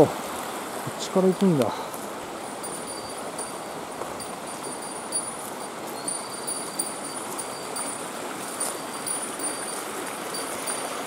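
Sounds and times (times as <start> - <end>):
forest stream rushing: 0.0 - 11.0.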